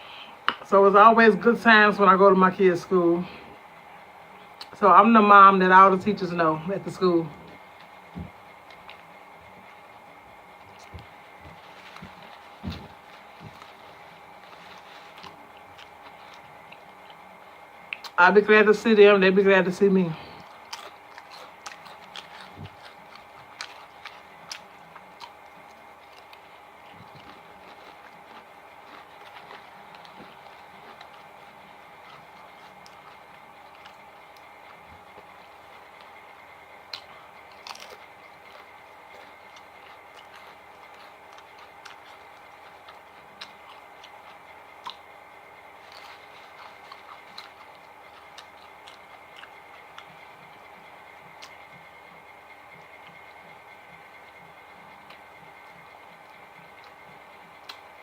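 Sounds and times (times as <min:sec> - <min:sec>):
faint steady hum: 0:00.0 - 0:58.0
person chewing: 0:07.3 - 0:18.2, 0:20.0 - 0:58.0.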